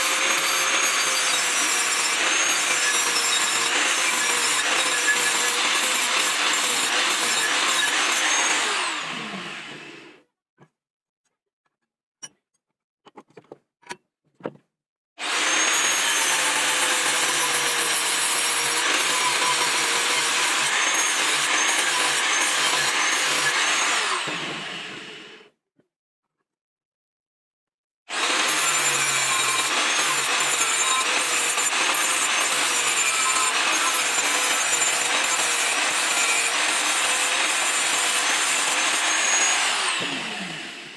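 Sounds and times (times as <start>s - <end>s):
electric grinder on steel: 0.0s - 10.1s, 15.2s - 25.4s, 28.1s - 40.9s.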